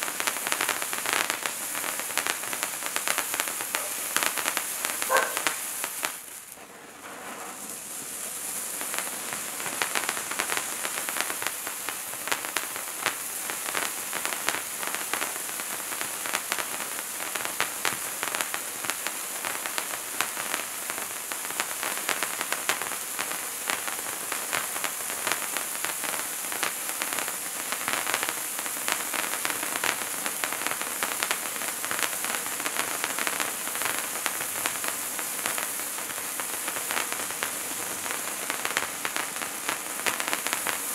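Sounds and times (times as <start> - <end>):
firework fountain hissing and crackling: 0.0 - 40.9.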